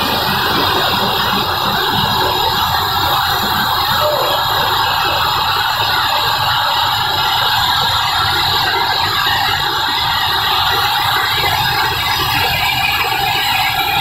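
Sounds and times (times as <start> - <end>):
mill machinery running: 0.0 - 14.0.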